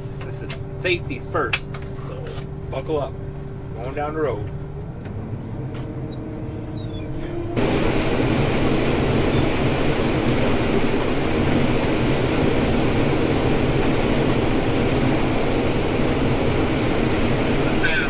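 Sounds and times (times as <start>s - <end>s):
combine harvester rumbling: 0.0s - 18.0s.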